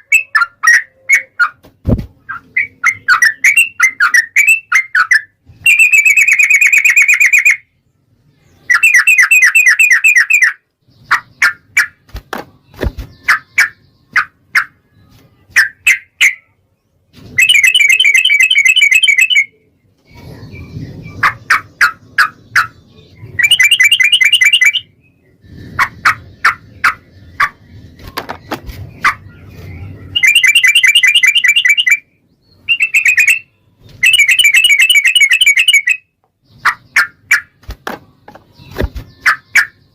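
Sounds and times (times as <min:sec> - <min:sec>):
bird singing trilled phrases: 0:02.2 - 0:11.8, 0:17.4 - 0:39.9.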